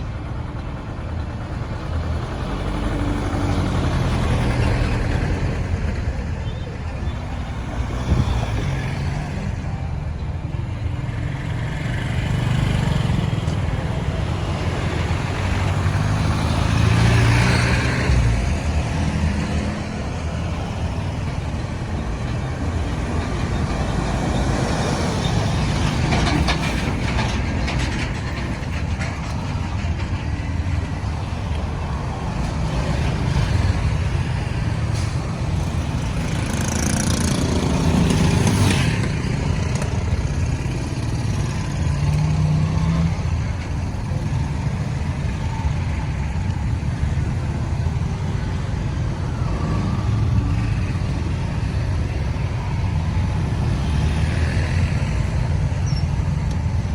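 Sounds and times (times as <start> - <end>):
road traffic noise: 0.0 - 56.9.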